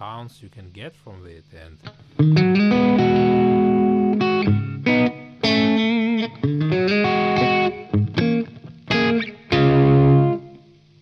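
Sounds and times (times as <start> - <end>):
overdriven electric guitar: 1.8 - 11.0.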